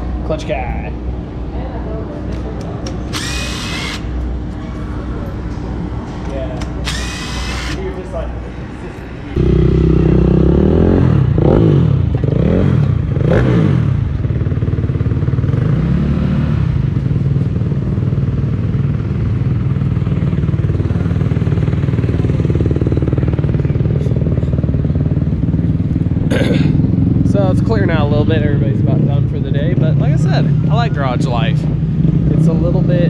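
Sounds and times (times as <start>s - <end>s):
dirt bike engines revving: 2.7s - 33.0s.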